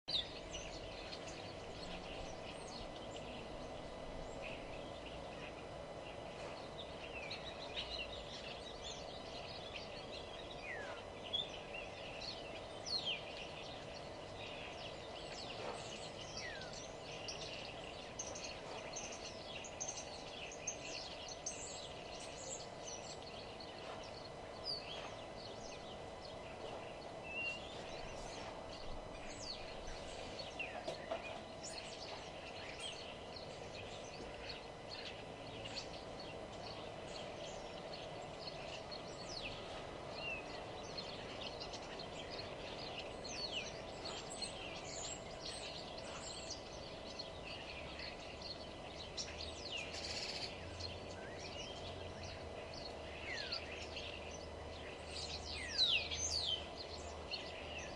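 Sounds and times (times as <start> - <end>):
songbirds chirping and singing: 0.0 - 57.9
low background hum: 0.1 - 57.9.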